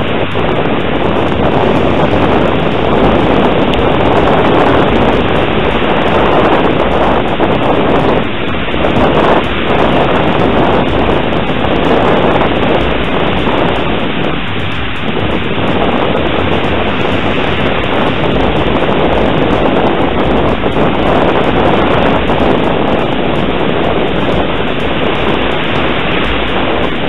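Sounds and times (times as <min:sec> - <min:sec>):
wind roaring over microphone: 0:00.0 - 0:27.0.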